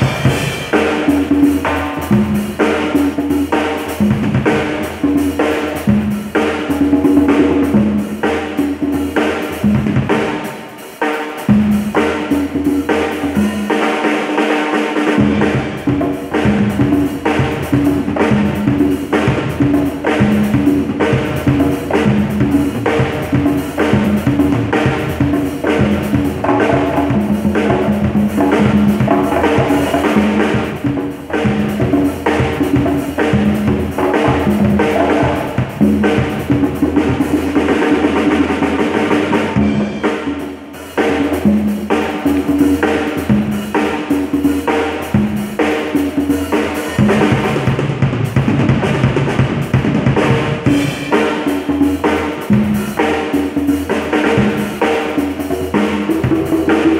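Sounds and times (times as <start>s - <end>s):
congas: 0.0s - 56.9s
drum kit dance rhythm: 0.0s - 56.9s.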